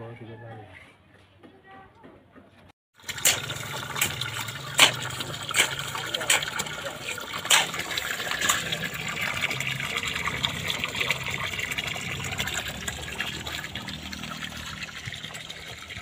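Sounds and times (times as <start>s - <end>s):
water gushing from pipe: 3.0s - 16.0s
water splashing on ground: 3.0s - 16.0s.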